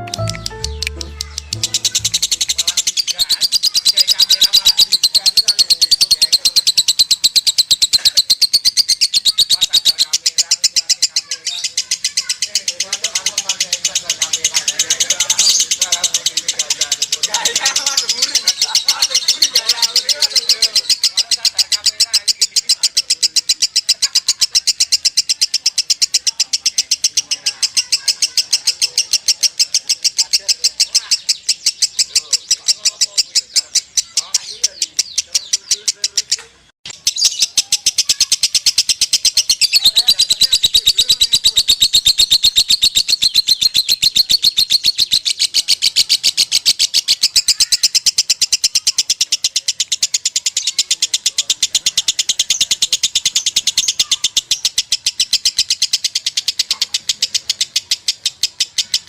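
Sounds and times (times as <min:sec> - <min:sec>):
bird singing a rapid trill: 0:00.0 - 0:59.0
lovebird chirping rapidly: 0:00.0 - 0:59.0.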